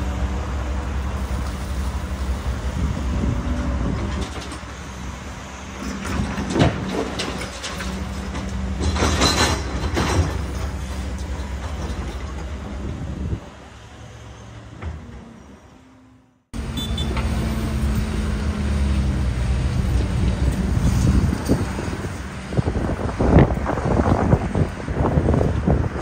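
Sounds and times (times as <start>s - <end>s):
excavator diesel engine humming: 0.0s - 26.0s
road traffic: 0.0s - 26.0s.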